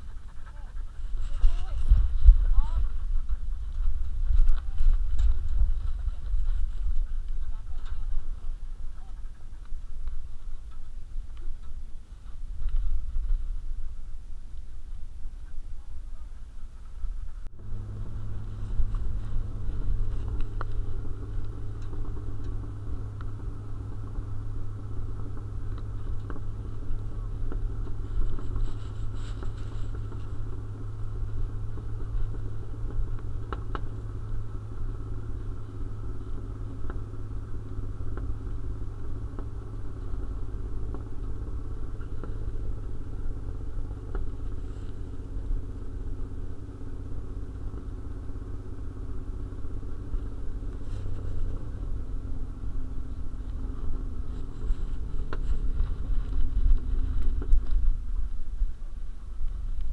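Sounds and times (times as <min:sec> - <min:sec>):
vehicle engine humming: 0:00.0 - 0:59.9.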